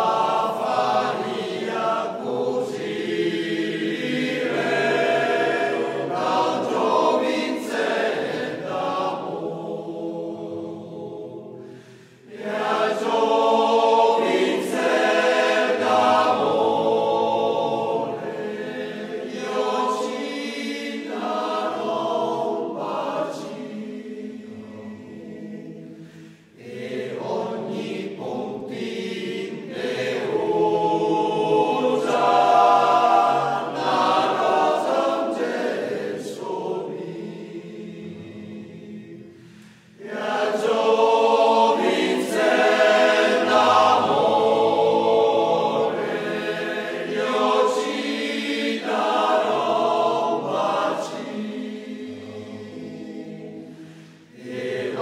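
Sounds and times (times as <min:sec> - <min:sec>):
male choir singing: 0:00.0 - 0:55.0.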